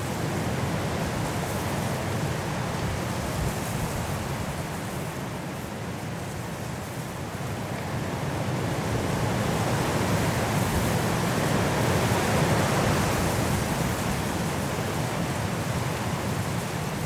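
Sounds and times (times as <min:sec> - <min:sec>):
high wind blowing through trees: 0:00.0 - 0:17.0.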